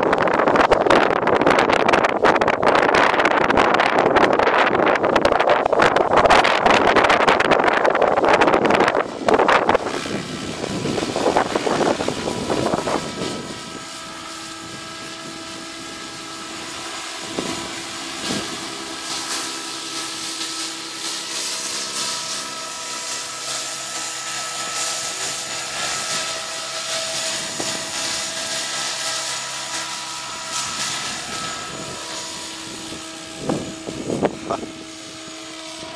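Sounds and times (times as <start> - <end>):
model helicopter rotor whine: 0.0 - 35.9
wind buffeting microphone: 0.0 - 35.9.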